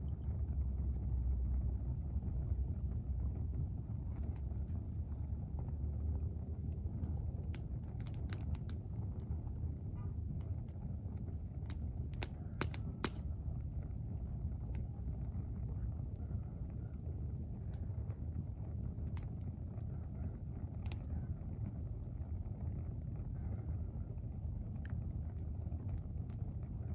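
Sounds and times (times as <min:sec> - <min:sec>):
low rumble: 0:00.0 - 0:26.9
campfire crackling: 0:00.1 - 0:26.9.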